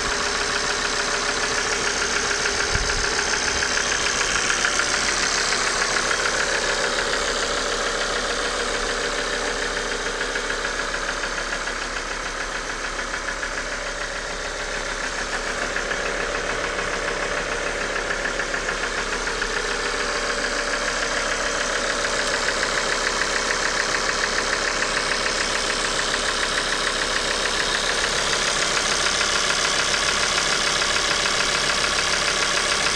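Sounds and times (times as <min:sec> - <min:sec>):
car engine running: 0:00.0 - 0:32.9
rapid clacking engine knock: 0:00.0 - 0:32.9.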